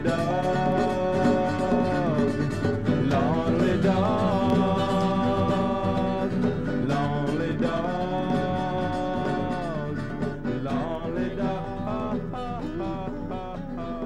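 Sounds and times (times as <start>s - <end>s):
plucked string acoustic music: 0.0s - 14.0s.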